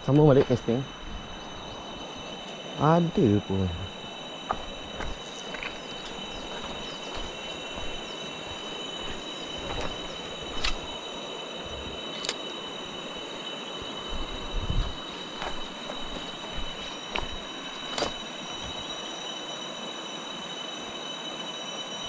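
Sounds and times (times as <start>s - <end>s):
insects chirping shrilly: 0.0s - 22.0s.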